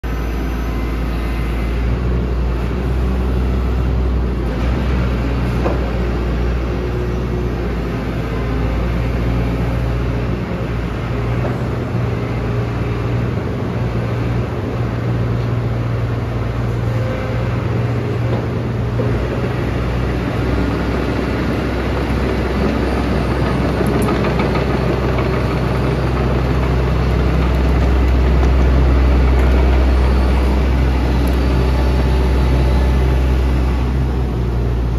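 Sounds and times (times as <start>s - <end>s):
excavator diesel engine humming: 0.0s - 34.9s.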